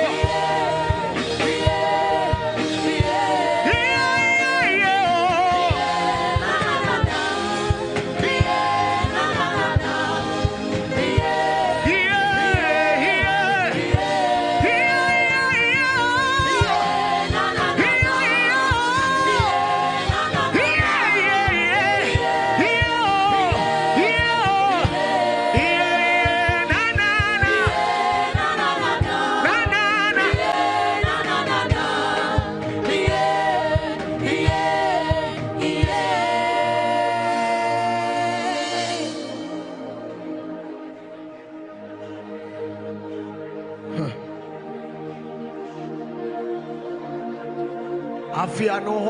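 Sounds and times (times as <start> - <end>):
voices singing gospel: 0.0 - 42.8
sustained backing chords: 0.0 - 49.0.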